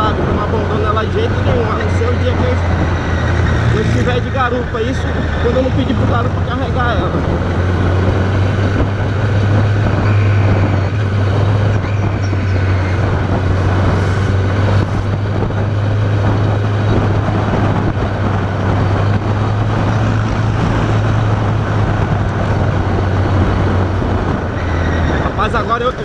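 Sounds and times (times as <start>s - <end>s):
motorcycle engine drone: 0.0s - 26.0s
wind and road noise: 0.0s - 26.0s.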